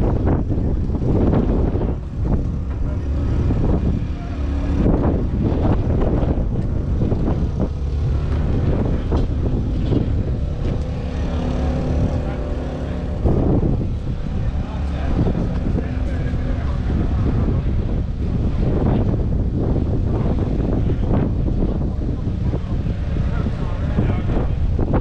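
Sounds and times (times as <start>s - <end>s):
diesel tractor engine running: 0.0s - 25.0s
wind on microphone: 0.0s - 25.0s.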